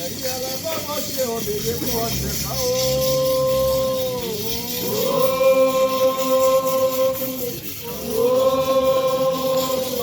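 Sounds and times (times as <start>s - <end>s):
voices chanting: 1.6s - 10.0s.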